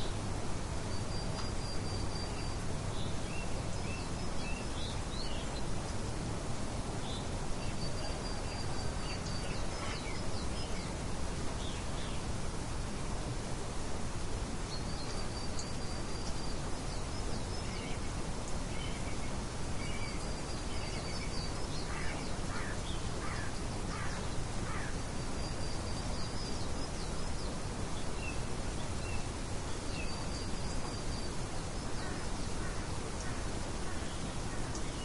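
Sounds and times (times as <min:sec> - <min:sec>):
background hiss: 0:00.0 - 0:35.0.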